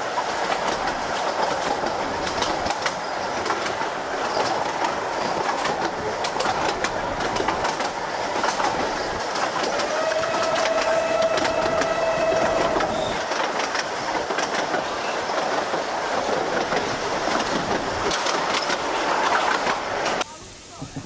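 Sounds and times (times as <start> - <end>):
wheels clicking over rail joints: 0.0 - 20.2
train rumbling: 0.0 - 21.0.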